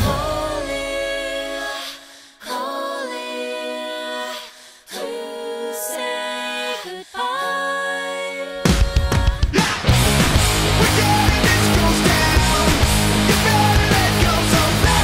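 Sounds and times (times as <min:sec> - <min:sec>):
layered singing voices: 0:00.0 - 0:10.0, 0:10.6 - 0:15.0.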